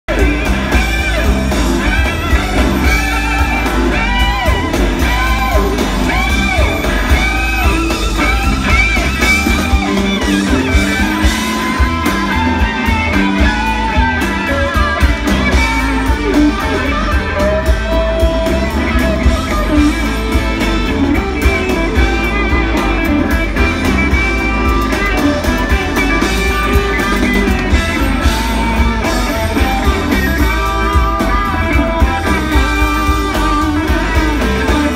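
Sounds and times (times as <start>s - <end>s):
drums: 0.0s - 34.9s
electric guitar leads: 0.0s - 34.9s
heavy bass line: 0.0s - 34.9s.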